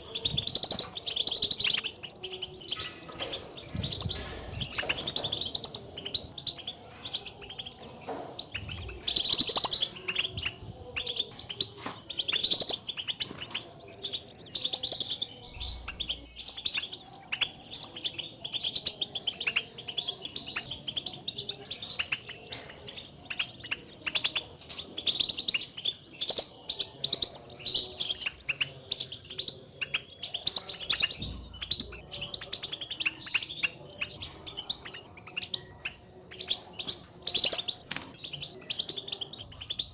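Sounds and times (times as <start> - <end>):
finches twittering chirps: 0.0 - 39.9.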